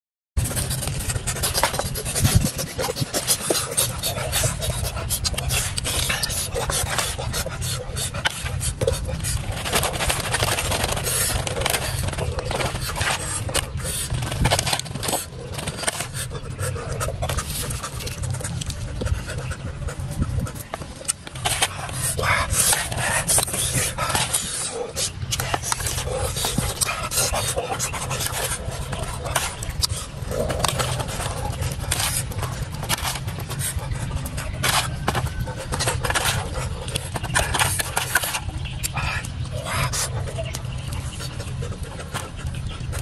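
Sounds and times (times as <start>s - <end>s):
blade scraping watermelon rind: 0.4s - 43.0s
steady low hum: 0.4s - 43.0s.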